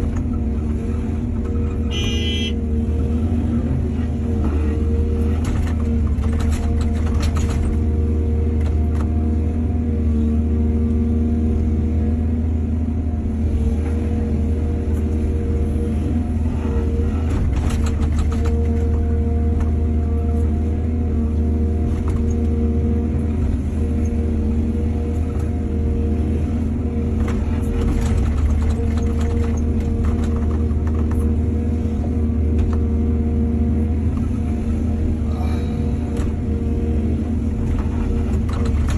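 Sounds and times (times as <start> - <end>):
diesel excavator engine droning: 0.0 - 38.9.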